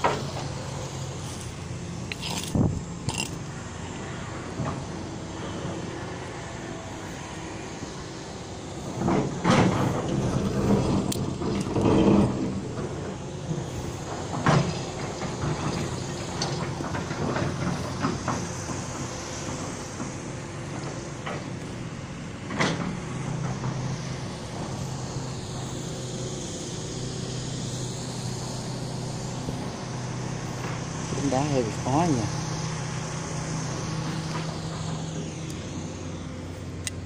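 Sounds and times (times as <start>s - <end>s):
motor droning: 0.0s - 37.0s.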